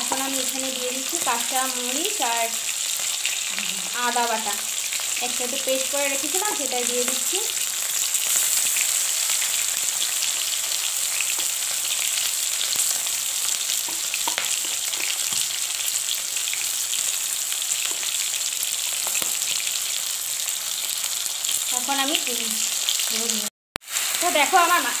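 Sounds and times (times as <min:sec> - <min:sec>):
fish frying in oil: 0:00.0 - 0:25.0
oil crackling and popping: 0:00.2 - 0:21.8.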